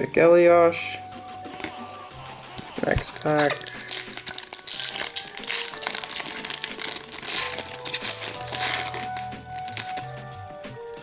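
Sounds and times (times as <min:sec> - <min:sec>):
background music: 0:00.0 - 0:11.0
plastic wrapper crinkling: 0:01.5 - 0:11.0.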